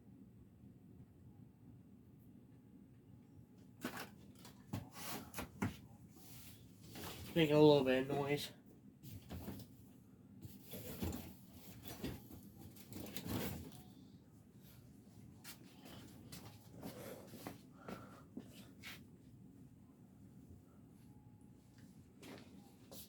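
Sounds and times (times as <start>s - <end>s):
ceiling fan motor hum: 0.0s - 23.0s.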